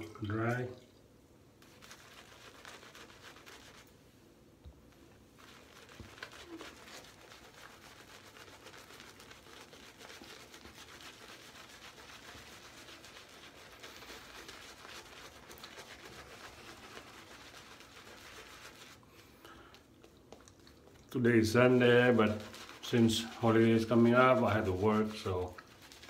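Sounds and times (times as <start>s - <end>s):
shaving brush swishing lather: 1.6s - 4.0s, 5.2s - 26.0s.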